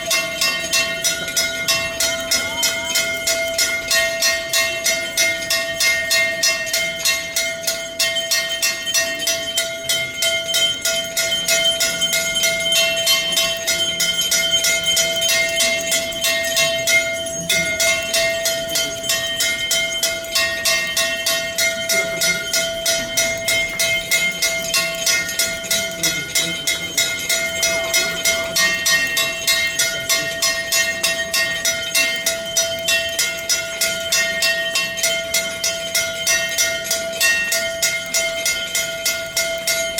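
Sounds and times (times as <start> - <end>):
temple bells rung rapidly: 0.0 - 39.9.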